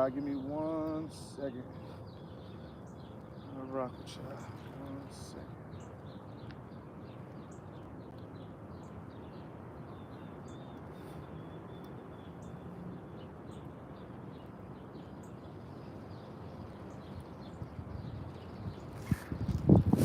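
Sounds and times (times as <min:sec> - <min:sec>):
steady low background noise: 0:00.0 - 0:19.4
small birds chirping: 0:00.0 - 0:20.0.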